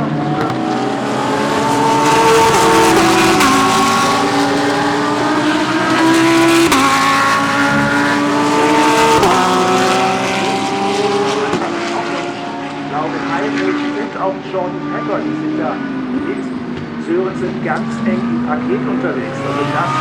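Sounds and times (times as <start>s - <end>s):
race cars accelerating past: 0.0s - 20.0s.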